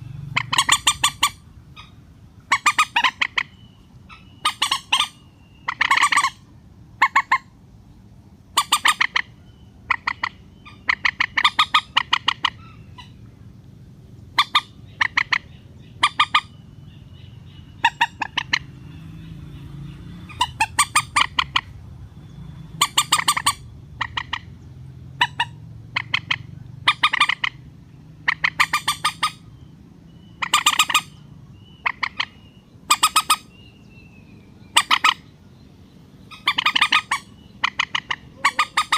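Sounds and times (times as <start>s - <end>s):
rail bird clucking calls: 0.0s - 7.6s, 8.5s - 34.0s, 34.6s - 38.9s.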